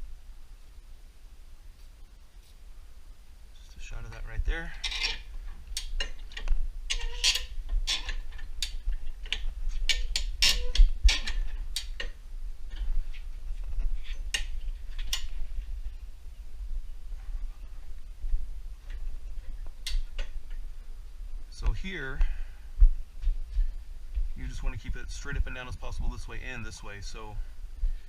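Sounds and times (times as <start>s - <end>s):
low rumble: 2.8s - 28.0s.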